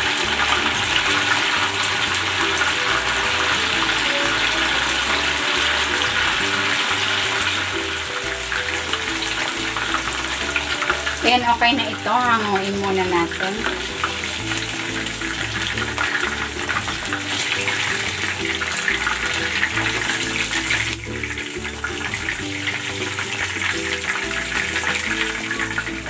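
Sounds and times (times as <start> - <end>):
background music: 0.0 - 26.0
oil sizzling in a frying pan: 0.0 - 26.0.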